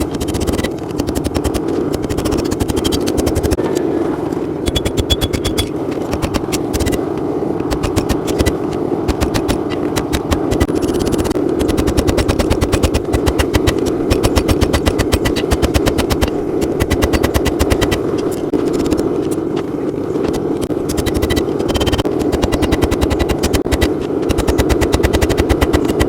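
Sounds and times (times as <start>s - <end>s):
forge roaring: 0.9s - 26.0s.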